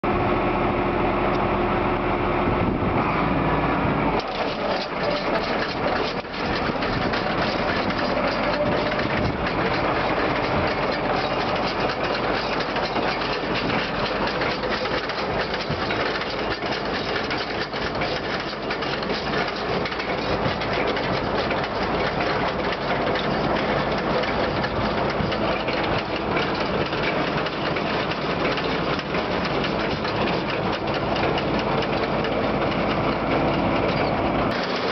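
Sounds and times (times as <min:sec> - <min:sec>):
tractor engine running: 0:00.0 - 0:34.9
baler drive clattering: 0:04.2 - 0:34.9.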